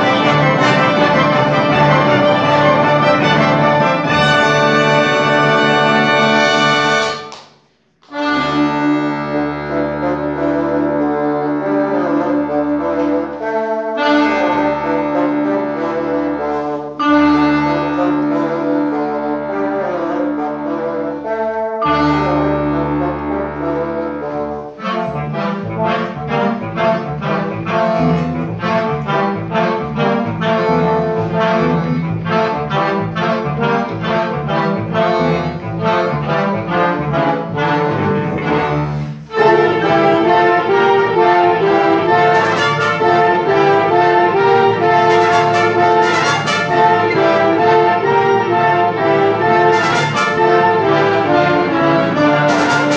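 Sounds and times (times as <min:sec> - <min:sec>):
instrumental music chords: 0:00.0 - 0:52.9.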